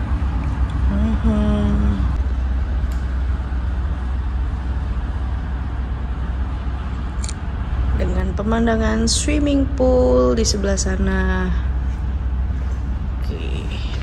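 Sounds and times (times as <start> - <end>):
low rumble of room noise: 0.0 - 14.0.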